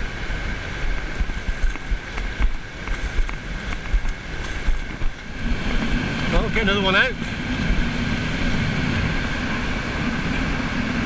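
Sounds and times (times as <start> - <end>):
surf washing across sand: 0.0 - 11.0
wind buffeting microphone: 0.0 - 11.0.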